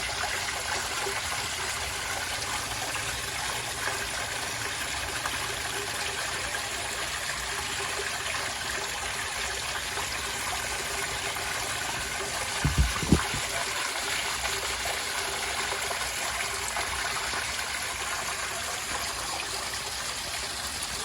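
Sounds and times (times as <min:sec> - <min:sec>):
small waterfall splashing: 0:00.0 - 0:21.0.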